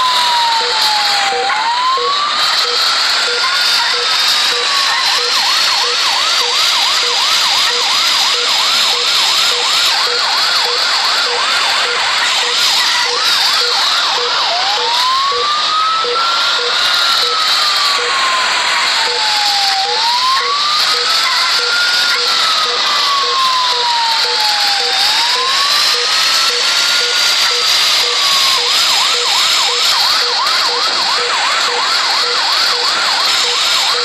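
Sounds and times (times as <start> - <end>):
ambulance siren: 0.0 - 34.0.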